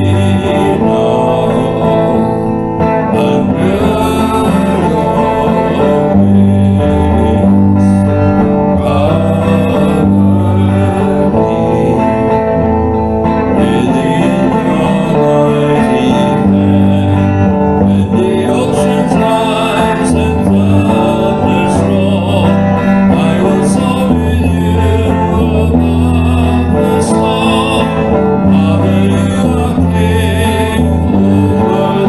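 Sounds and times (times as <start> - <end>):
slow electric guitar song: 0.0 - 32.0.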